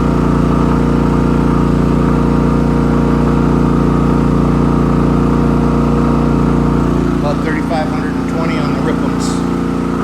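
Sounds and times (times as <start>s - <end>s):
generator engine under load: 0.0s - 10.0s.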